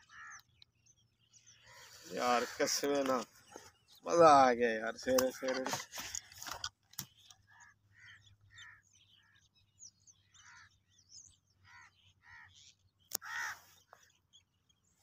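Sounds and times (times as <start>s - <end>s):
harsh caw-like bird calls: 0.0s - 0.7s, 1.4s - 9.5s, 10.1s - 14.3s.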